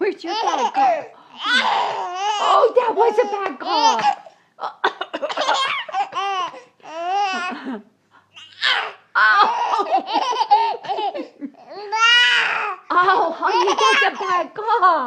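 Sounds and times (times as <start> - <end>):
baby laughing: 0.3 - 4.3, 4.9 - 7.7, 8.4 - 14.5.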